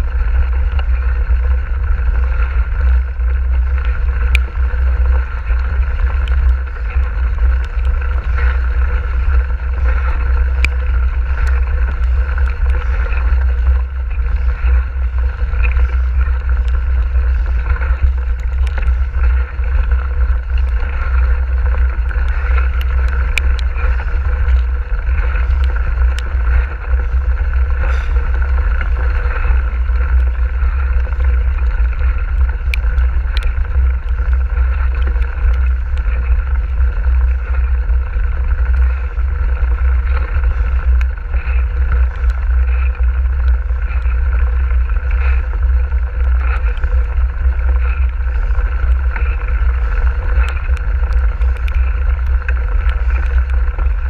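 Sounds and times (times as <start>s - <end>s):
small clicks and rattles: 0.0s - 54.0s
tyres rolling over wet stones: 0.0s - 54.0s
wind buffeting microphone: 0.0s - 54.0s.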